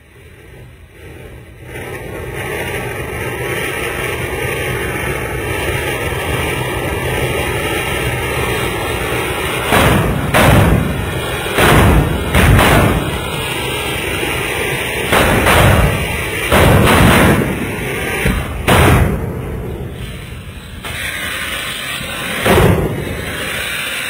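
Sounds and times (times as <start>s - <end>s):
firecrackers banging: 0.0s - 24.0s
fountain firework hissing: 0.0s - 24.0s.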